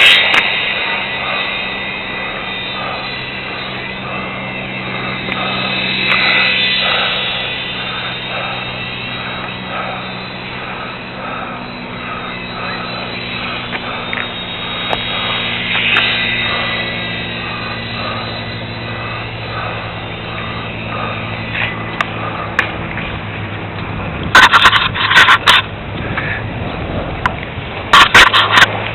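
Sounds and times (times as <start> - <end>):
model plane motor buzzing: 0.0 - 28.9.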